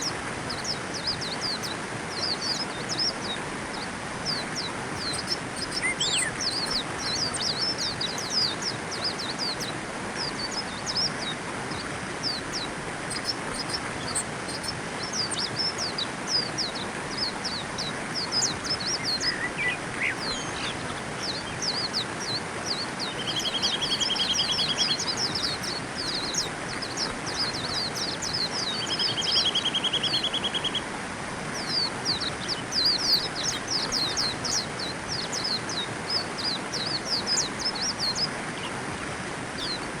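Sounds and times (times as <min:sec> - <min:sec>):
buzzy bird trill: 0:00.0 - 0:30.8, 0:31.5 - 0:38.8
background hiss: 0:00.0 - 0:40.0
birds chirping: 0:00.0 - 0:40.0.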